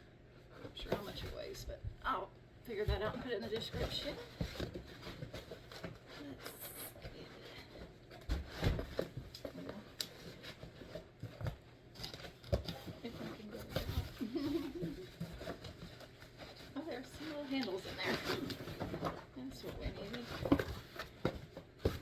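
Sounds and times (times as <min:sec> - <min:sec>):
cardboard box rustling and scraping: 0:02.9 - 0:22.0.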